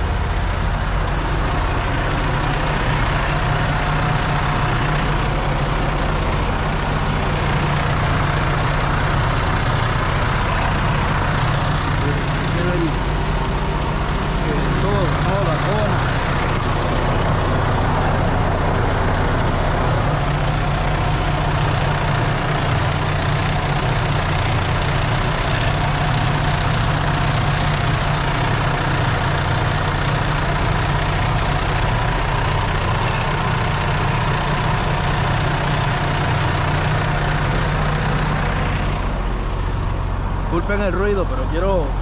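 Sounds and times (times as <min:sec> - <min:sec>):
diesel truck engine idling: 0:00.0 - 0:42.0.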